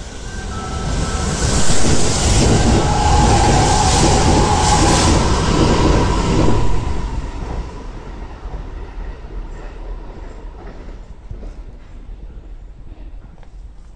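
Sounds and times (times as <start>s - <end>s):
train rushing past: 0.0s - 12.8s.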